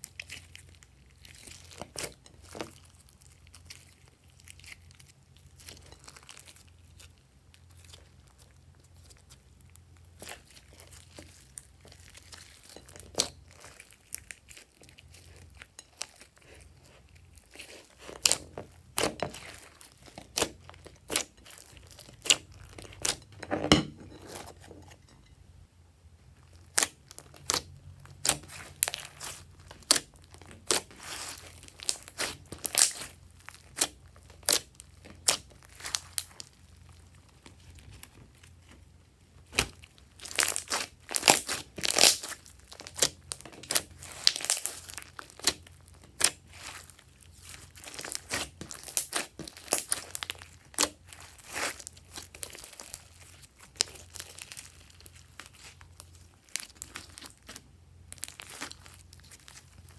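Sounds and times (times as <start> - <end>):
slime popping and crackling: 0.0 - 23.4, 26.4 - 38.5, 39.4 - 59.9.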